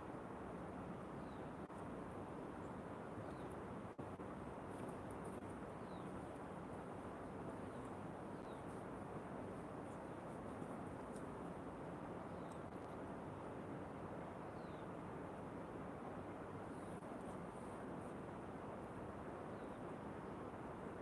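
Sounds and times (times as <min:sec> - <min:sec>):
faint steady rushing noise: 0:00.0 - 0:21.0.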